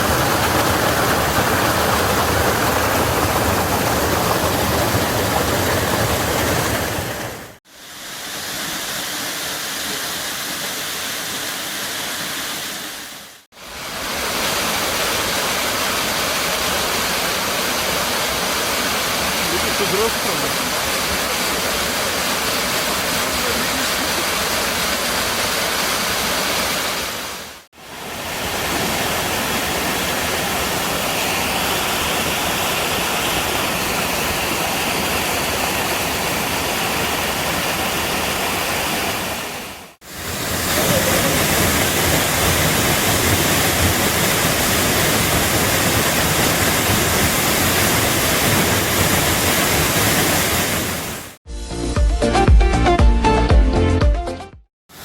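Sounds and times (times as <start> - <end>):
waterfall pouring: 0.0 - 51.4.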